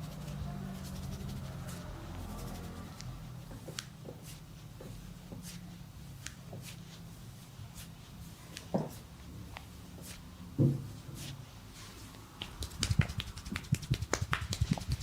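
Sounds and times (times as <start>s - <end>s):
hands rubbing skin and hair: 0.0s - 15.0s.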